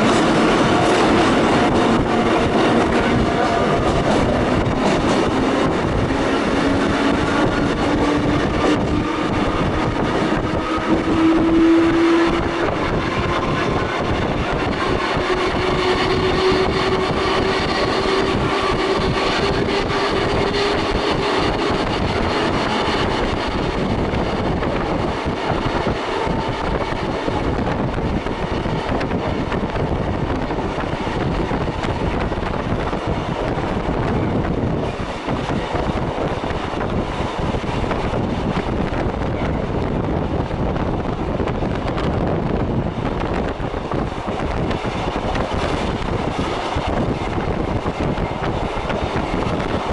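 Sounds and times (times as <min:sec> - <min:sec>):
electric train motor whine: 0:00.0 - 0:49.9
wheels rumbling on rails: 0:00.0 - 0:49.9.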